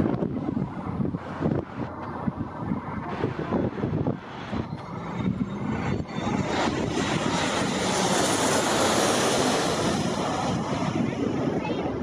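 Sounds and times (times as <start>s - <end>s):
jet airliner roar: 0.0s - 12.0s.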